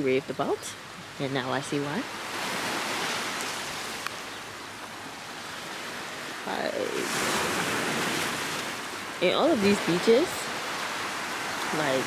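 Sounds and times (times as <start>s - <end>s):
surf washing on beach: 0.9s - 12.0s.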